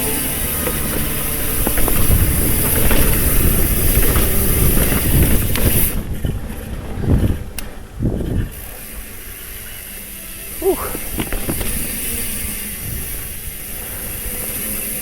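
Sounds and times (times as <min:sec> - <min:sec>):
bike knocks and rattles: 0:00.0 - 0:09.8, 0:10.8 - 0:15.0
tyre and ground noise: 0:00.0 - 0:15.0.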